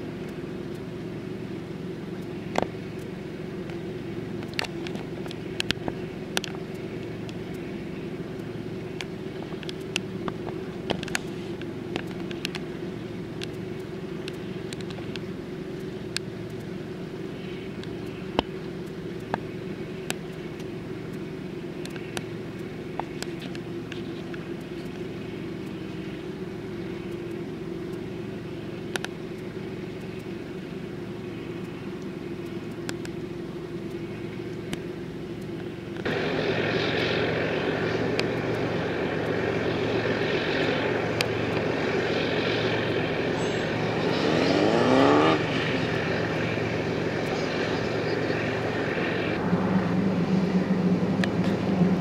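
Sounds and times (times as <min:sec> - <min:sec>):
engines and machinery droning: 0:00.0 - 0:52.0
hissy engine noise: 0:00.0 - 0:52.0.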